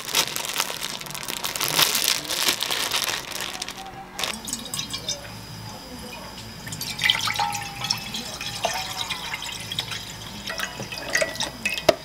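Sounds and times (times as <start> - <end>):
broth pouring and splashing: 0.0 - 12.0.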